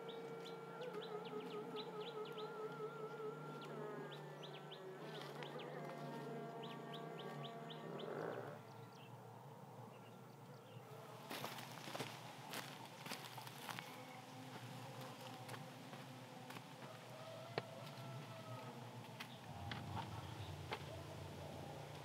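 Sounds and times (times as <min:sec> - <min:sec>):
insects buzzing: 0:00.0 - 0:09.1, 0:10.8 - 0:22.0.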